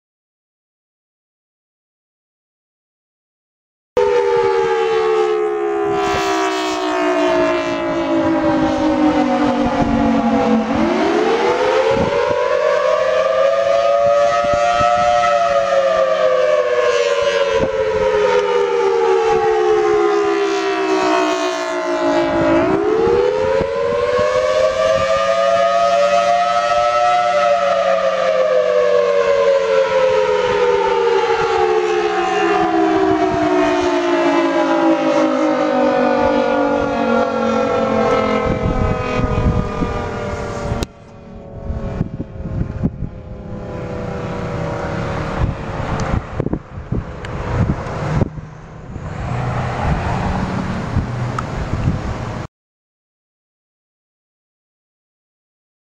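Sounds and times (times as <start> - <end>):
warning siren winding up and down: 4.0 - 52.1.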